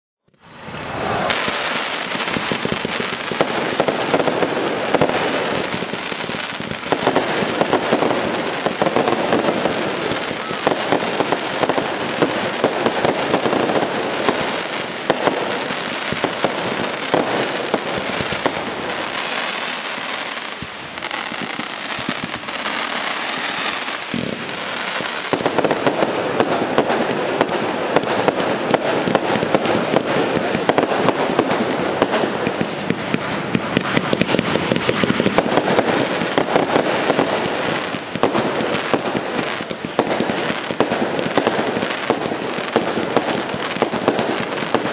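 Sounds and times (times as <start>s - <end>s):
fireworks crackling and banging: 0.3s - 44.9s.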